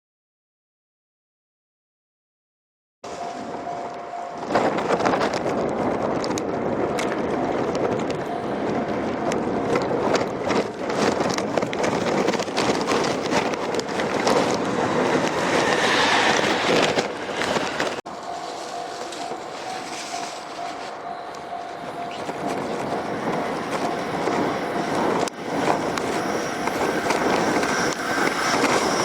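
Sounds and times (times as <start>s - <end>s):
train passing with clicks: 3.0s - 29.0s.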